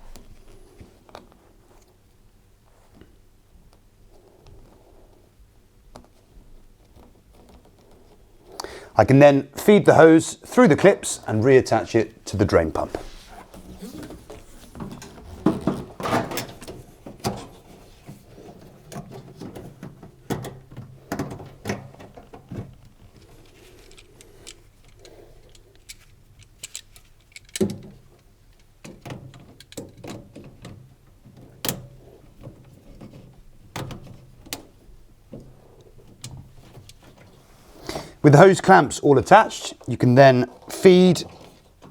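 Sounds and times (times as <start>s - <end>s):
hands fitting rubber hose: 5.9s - 9.0s, 10.5s - 38.4s, 39.3s - 41.9s.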